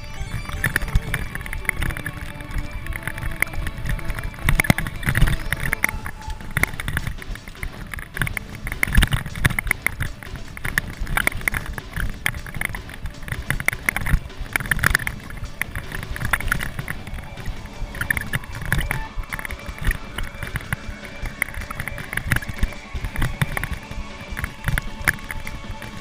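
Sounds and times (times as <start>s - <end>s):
bike chain and frame knocking: 0.0s - 26.0s
bike tyres on dirt: 0.0s - 26.0s.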